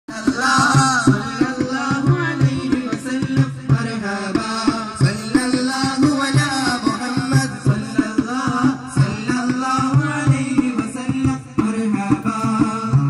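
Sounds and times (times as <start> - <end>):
devotional song over loudspeakers: 0.1 - 13.0
hand drum beat: 0.1 - 13.0.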